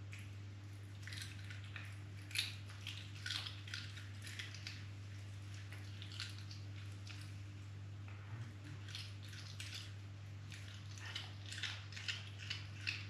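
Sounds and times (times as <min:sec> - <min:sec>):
cat chewing with wet crunches: 0:00.0 - 0:07.5, 0:08.7 - 0:13.0
low electrical hum: 0:00.0 - 0:13.0.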